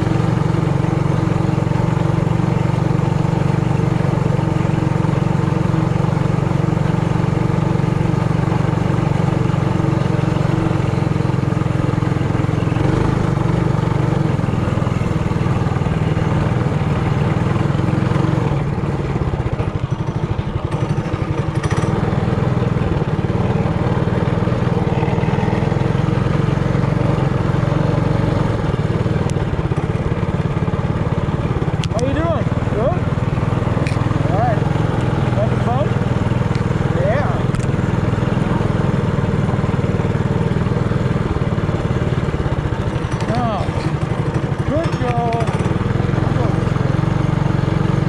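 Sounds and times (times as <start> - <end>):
mini bike engine running: 0.0 - 48.0.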